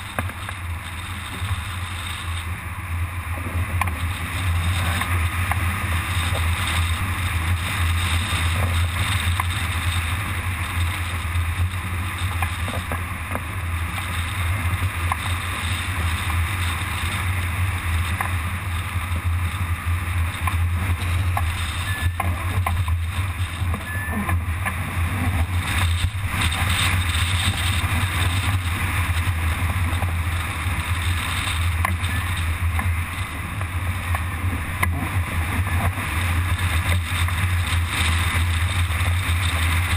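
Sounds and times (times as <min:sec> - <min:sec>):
low rumble: 0:00.0 - 0:39.9
wind buffeting microphone: 0:00.0 - 0:39.9.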